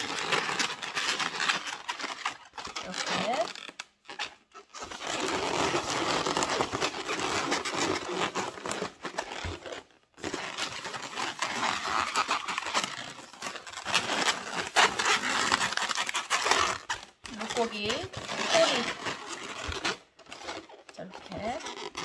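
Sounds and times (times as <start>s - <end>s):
balloons rubbing and squeaking: 0.0s - 22.0s.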